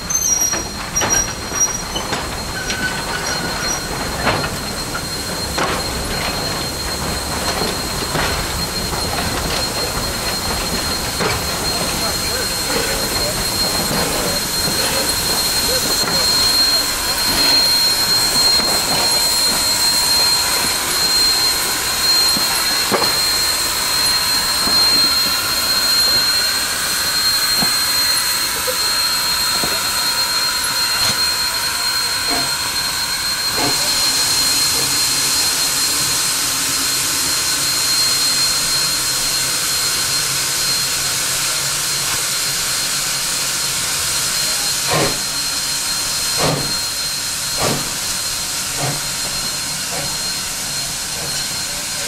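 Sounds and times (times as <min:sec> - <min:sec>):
steam locomotive hissing: 0:00.0 - 0:52.0.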